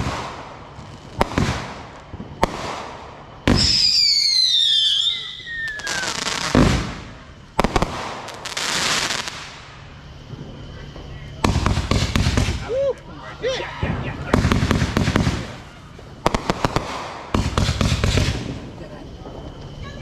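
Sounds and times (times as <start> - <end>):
firework bangs: 0.0 - 13.0, 13.7 - 20.0
whistling firework: 0.0 - 20.0.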